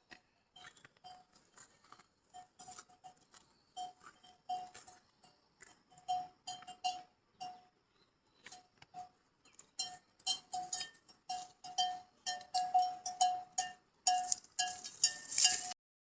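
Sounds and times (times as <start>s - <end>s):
livestock bell clanking: 0.6s - 1.4s, 2.3s - 7.7s, 8.4s - 15.8s.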